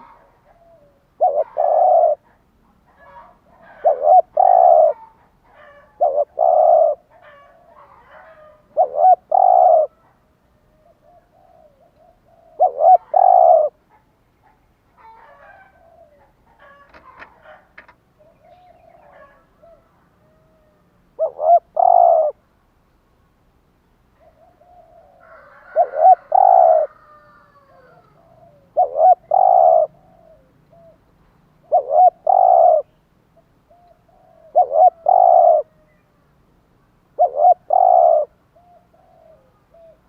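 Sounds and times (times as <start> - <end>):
dove cooing: 0.0 - 22.4, 24.2 - 36.0, 37.2 - 40.0.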